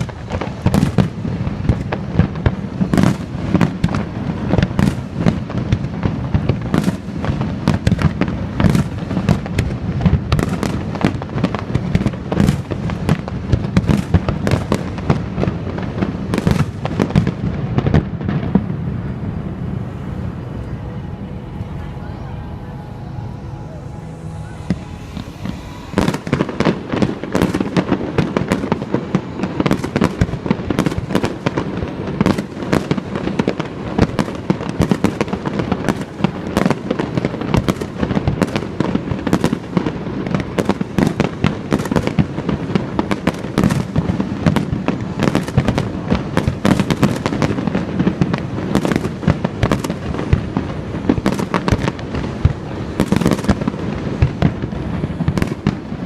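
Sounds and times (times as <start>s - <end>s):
fireworks bangs and crackles: 0.0s - 21.1s, 21.9s - 56.0s.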